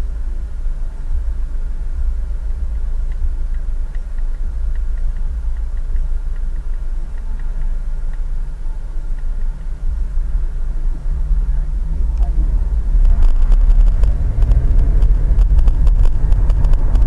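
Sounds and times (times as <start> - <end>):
car driving rumble: 0.0 - 17.0
faint light ticking: 0.0 - 17.0.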